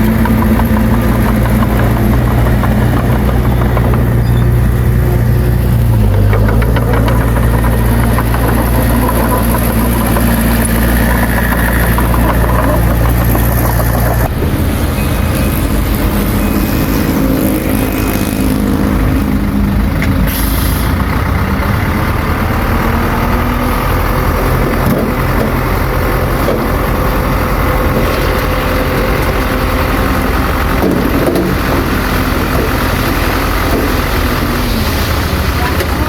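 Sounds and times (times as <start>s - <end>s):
diesel engine running loudly: 0.0s - 36.0s.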